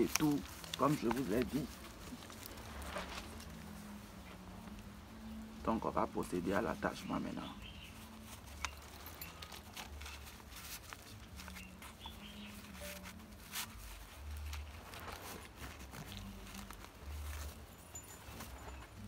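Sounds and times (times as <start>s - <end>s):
cloth rustling: 0.0s - 19.0s.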